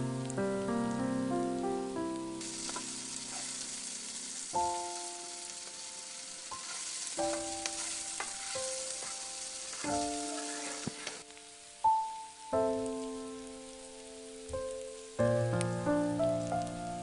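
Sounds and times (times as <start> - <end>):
background music: 0.0 - 17.0
food sizzling in a pan: 1.6 - 17.0.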